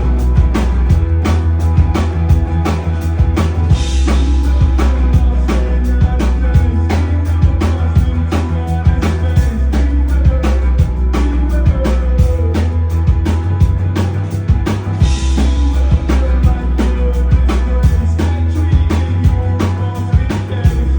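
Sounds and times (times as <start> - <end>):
live rock band playing: 0.0 - 20.9.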